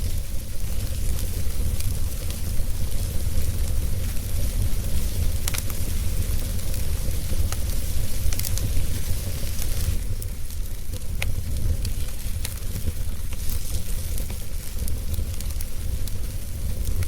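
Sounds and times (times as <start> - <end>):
campfire crackling and popping: 0.0 - 17.0
campfire hiss: 0.0 - 17.0.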